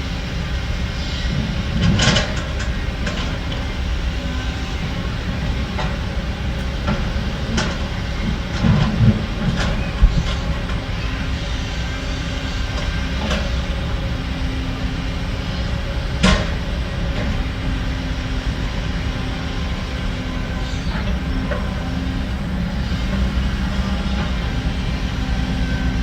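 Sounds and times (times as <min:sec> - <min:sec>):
diesel machinery running: 0:00.0 - 0:26.0.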